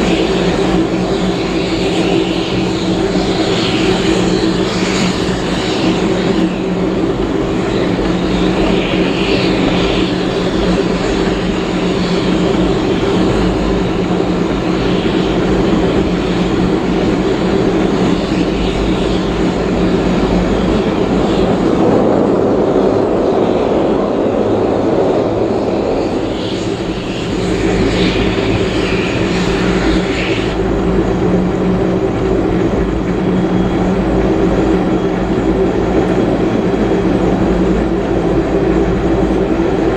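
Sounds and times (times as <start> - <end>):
train carriage rumble: 0.0 - 39.9
train wheels on rail: 0.0 - 39.9.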